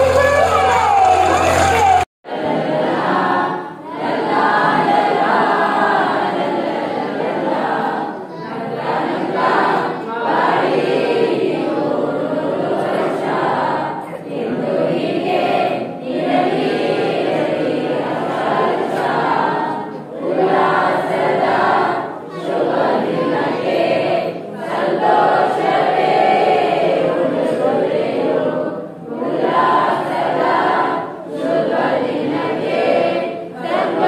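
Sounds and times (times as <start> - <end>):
children and adults singing a prayer: 0.0 - 34.0.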